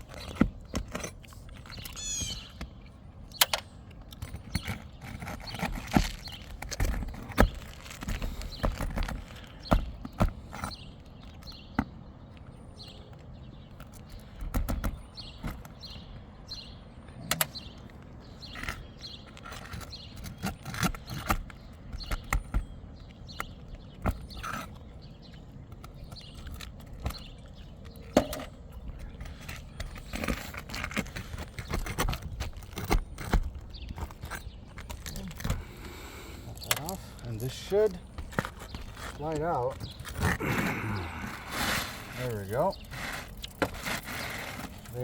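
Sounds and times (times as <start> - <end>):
hand tools clicking and scraping: 0.0 - 11.6, 17.2 - 45.0.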